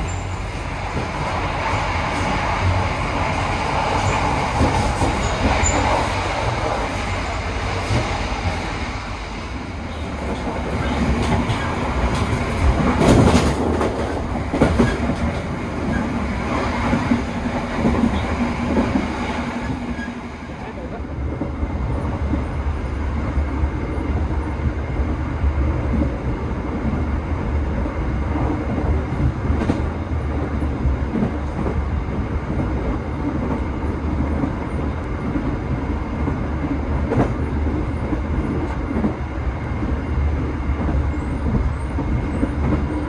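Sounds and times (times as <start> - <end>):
train rumble inside carriage: 0.0 - 43.0.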